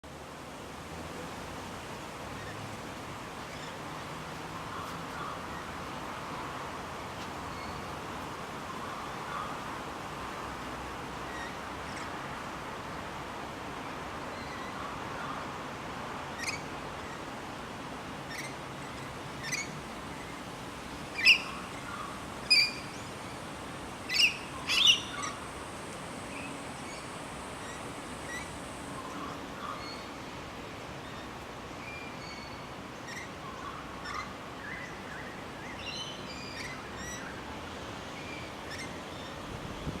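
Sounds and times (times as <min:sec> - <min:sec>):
steady background hiss: 0:00.0 - 0:40.0.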